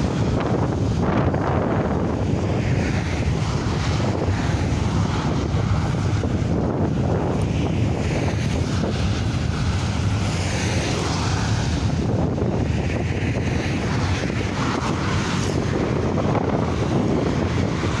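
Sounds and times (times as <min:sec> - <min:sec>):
freight train rumbling past: 0:00.0 - 0:18.0
road traffic passing: 0:00.0 - 0:18.0
wind buffeting microphone: 0:00.0 - 0:18.0.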